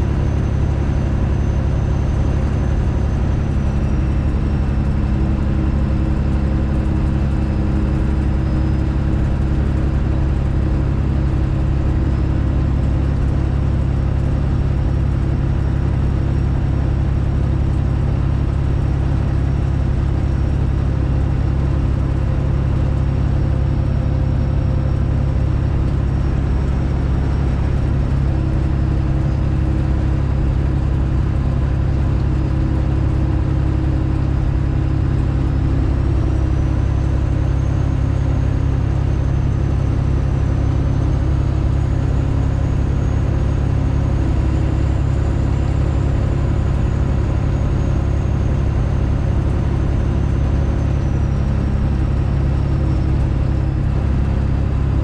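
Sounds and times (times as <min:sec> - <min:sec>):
deep diesel exhaust drone: 0:00.0 - 0:55.0.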